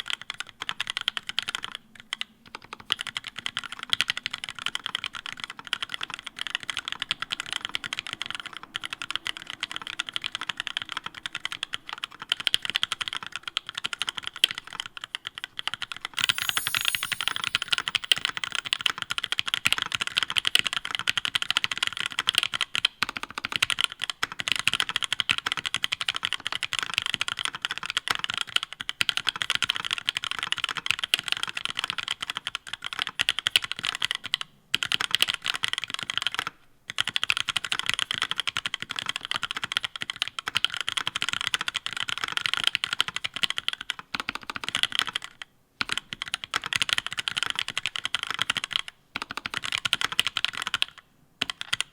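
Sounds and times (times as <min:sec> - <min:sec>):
mechanical keyboard typing: 0:00.0 - 0:15.6, 0:16.2 - 0:19.0, 0:26.8 - 0:51.9.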